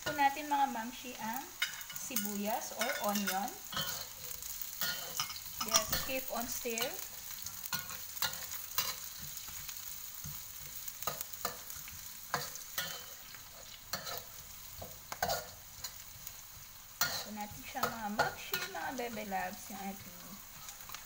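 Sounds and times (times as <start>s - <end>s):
garlic and onion sizzling in oil: 0.0s - 21.0s
spatula scraping a pan: 1.6s - 16.3s, 17.0s - 21.0s.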